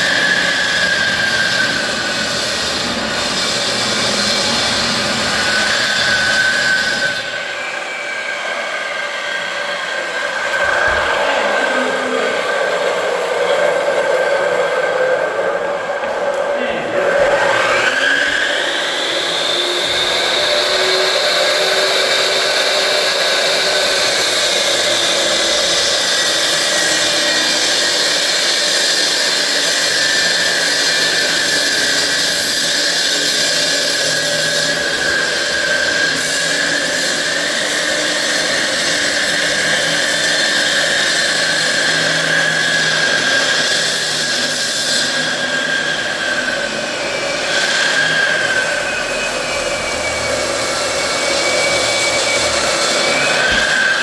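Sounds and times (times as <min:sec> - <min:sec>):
electric saw cutting wall: 0:00.0 - 0:54.0.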